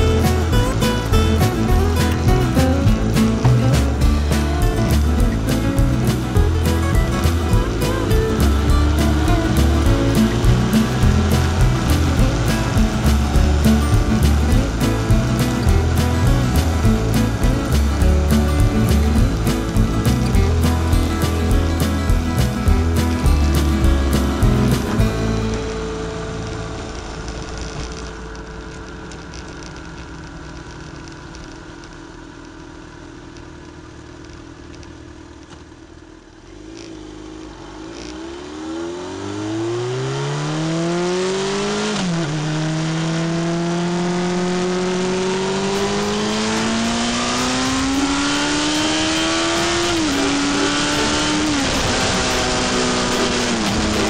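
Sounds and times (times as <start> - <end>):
wind and road rush: 0.0 - 32.6, 36.1 - 54.0
motorcycle engine accelerating: 0.0 - 54.0.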